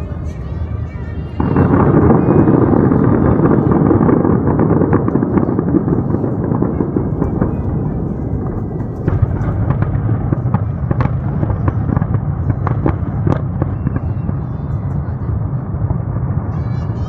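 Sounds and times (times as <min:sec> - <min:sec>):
fireworks bursts rumbling: 0:00.0 - 0:17.0.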